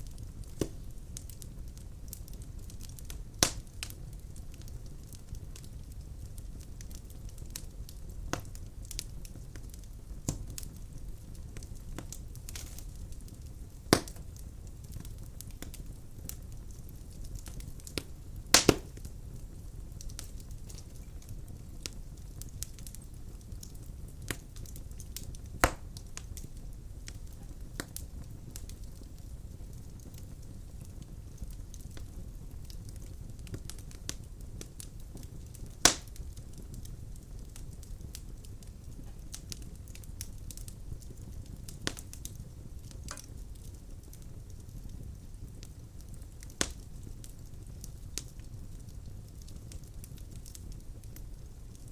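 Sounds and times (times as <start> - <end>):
loud pops from fire: 0.0 - 51.9
wood fire crackling: 0.0 - 51.9.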